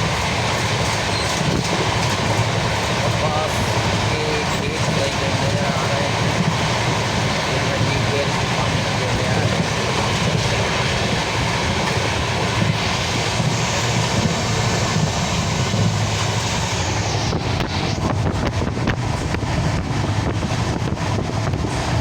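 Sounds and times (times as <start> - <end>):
road vehicle rumble: 0.0 - 22.0
wind buffeting microphone: 0.0 - 22.0.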